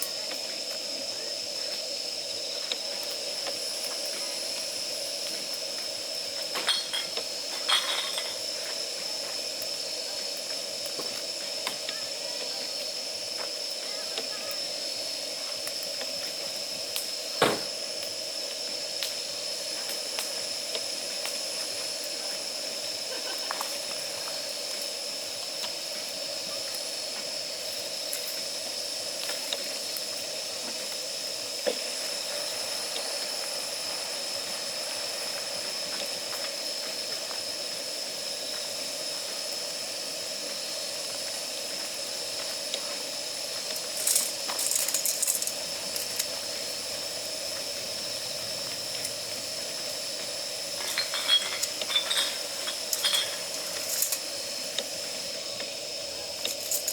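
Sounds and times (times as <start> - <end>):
gas burner hissing: 0.0 - 56.9.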